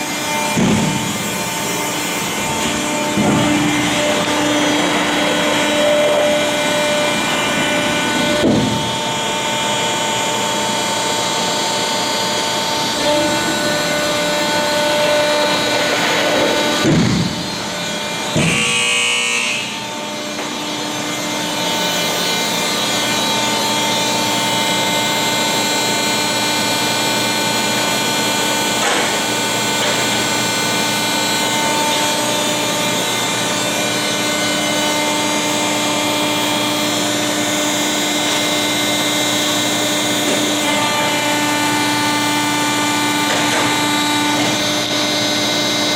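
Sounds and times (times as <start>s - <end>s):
baler machine hum and whine: 0.0s - 45.9s.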